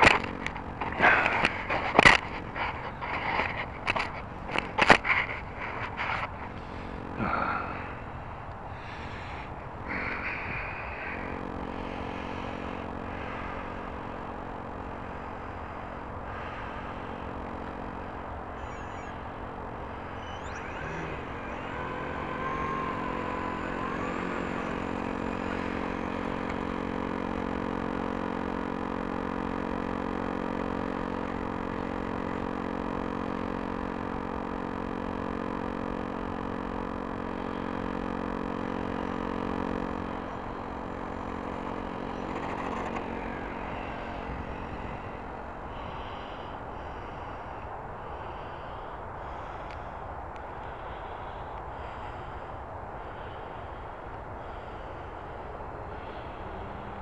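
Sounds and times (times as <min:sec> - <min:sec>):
model plane electric motor whine: 0:00.0 - 0:57.0.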